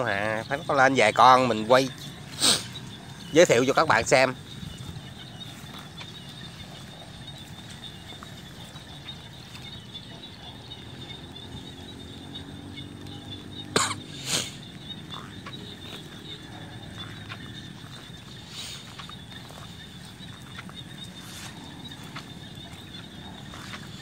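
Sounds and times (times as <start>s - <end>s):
frogs trilling: 0.0s - 24.0s.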